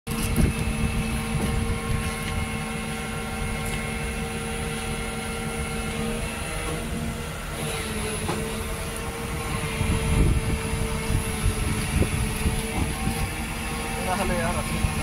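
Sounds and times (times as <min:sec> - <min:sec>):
excavator engine rumbling: 0:00.1 - 0:15.0.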